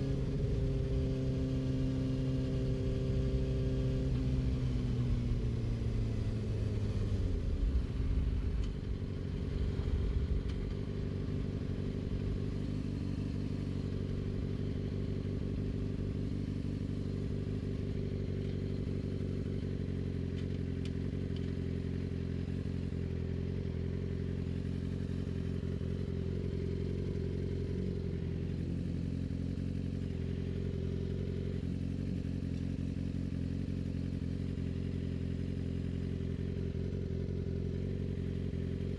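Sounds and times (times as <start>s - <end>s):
motorcycle engine slowing to idle: 0.0s - 38.9s.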